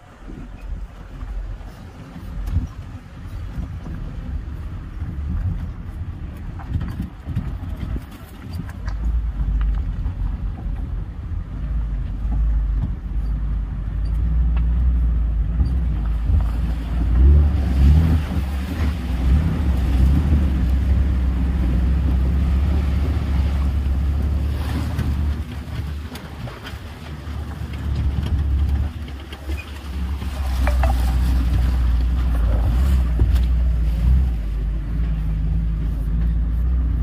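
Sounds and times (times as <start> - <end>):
jeep engine rumbling: 0.0 - 37.0
wind buffeting microphone: 0.0 - 37.0.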